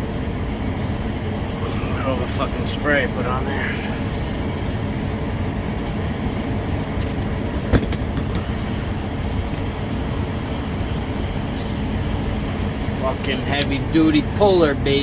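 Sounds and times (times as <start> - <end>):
mechanical drone with hum: 0.0 - 15.0.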